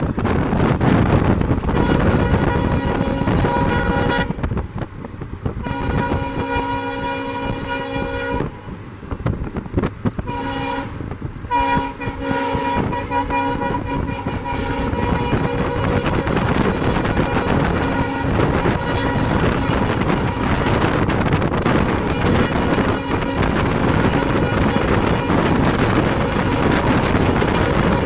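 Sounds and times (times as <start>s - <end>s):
train rumbling past at speed: 0.0s - 28.0s
locomotive horn blasts: 1.7s - 4.5s, 5.6s - 8.8s, 10.2s - 28.0s.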